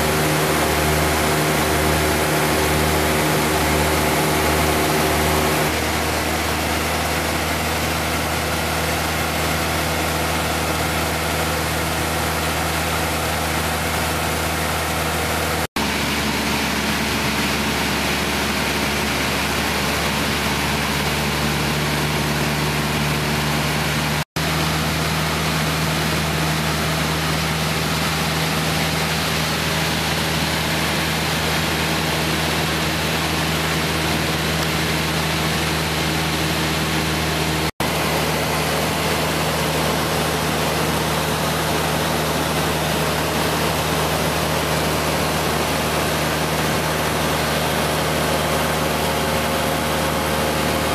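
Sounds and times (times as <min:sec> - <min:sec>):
propeller aircraft engine droning: 0:00.0 - 0:50.9.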